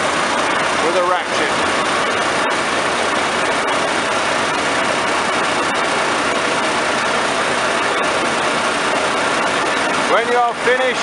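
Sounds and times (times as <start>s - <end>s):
combine engine idling: 0.0s - 11.0s.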